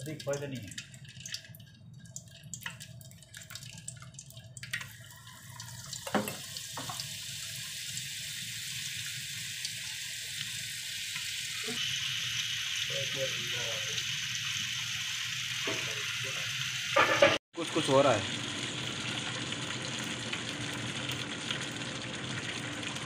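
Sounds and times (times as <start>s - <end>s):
oil frying sizzle: 0.0s - 23.0s
seeds crackling in hot oil: 0.0s - 23.0s.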